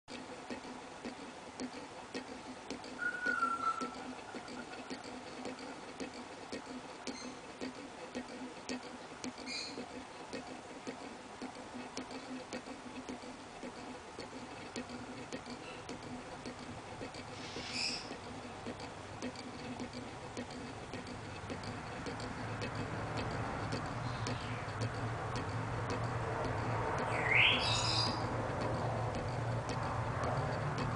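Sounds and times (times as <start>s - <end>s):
airlock bubbling and ticking: 0.1s - 30.9s.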